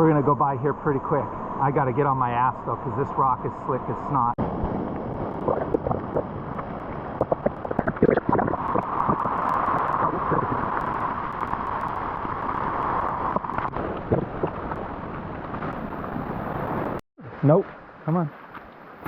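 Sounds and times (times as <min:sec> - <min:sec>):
stream water flowing: 0:00.0 - 0:19.0.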